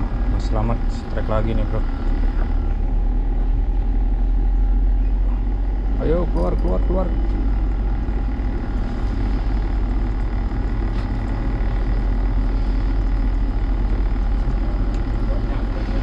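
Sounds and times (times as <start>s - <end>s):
low machinery drone: 0.0s - 16.0s.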